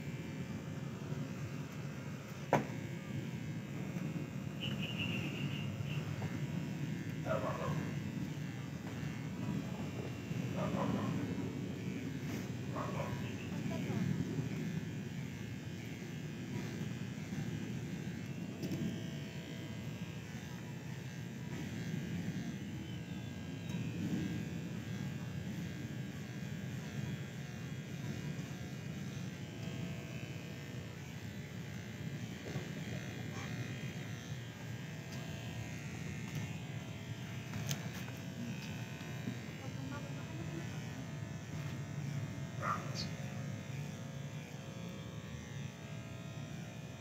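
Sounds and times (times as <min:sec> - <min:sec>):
electric hair clippers buzzing: 0:00.0 - 0:47.0.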